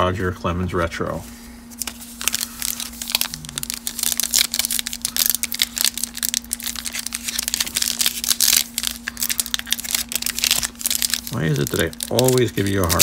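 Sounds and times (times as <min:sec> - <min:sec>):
foil wrapper crinkling and tearing: 0:01.8 - 0:13.0.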